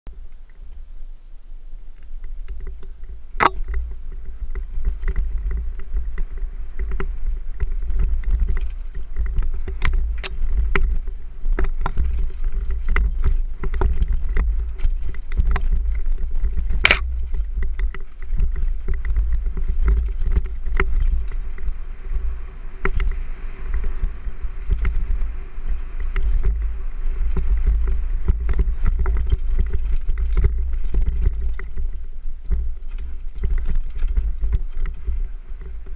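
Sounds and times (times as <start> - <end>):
wind buffeting microphone: 0.1 - 35.9
bike rattling over rocks: 1.9 - 35.9.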